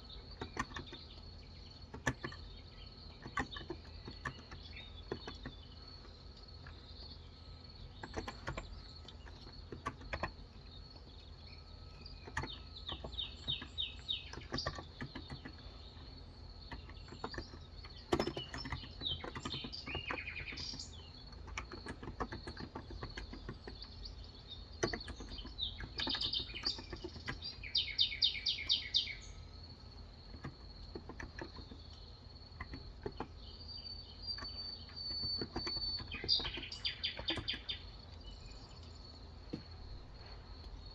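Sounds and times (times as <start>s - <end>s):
birds chirping in trills: 0.0s - 40.9s.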